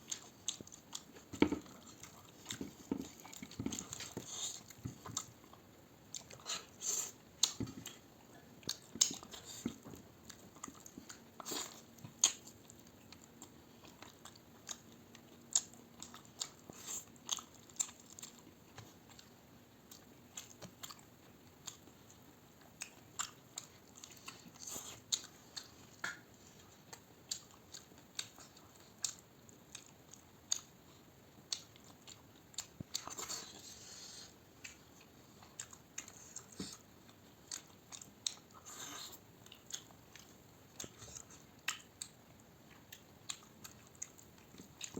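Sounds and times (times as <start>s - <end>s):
person chewing and crunching: 0.0s - 44.9s.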